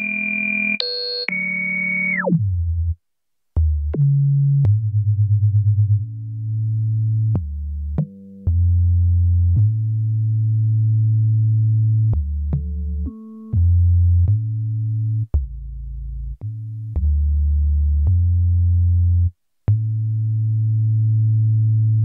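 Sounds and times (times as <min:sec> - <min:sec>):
low synth bass notes: 0:02.2 - 0:03.0, 0:03.6 - 0:22.0.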